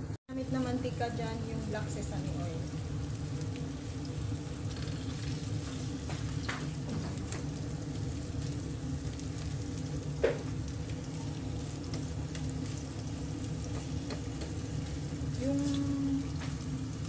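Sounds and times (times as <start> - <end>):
ginger frying in oil: 0.0 - 17.0
steady low hum: 0.0 - 17.0.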